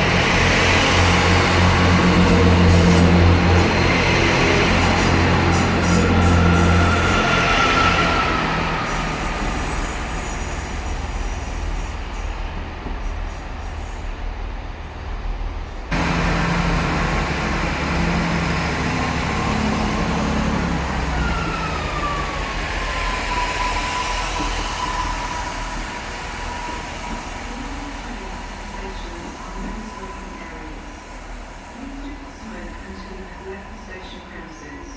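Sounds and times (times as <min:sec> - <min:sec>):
train motors humming: 0:00.0 - 0:34.7.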